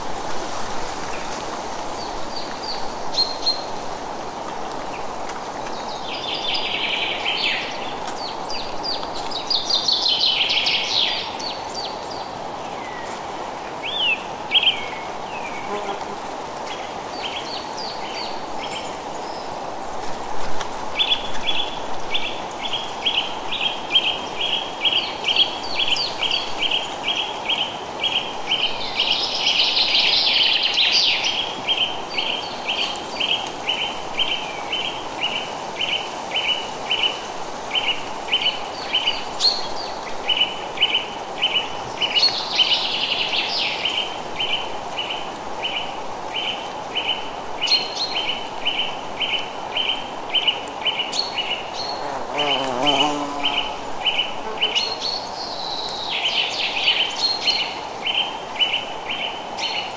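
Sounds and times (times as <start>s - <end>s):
wind in the trees: 0.0s - 59.9s.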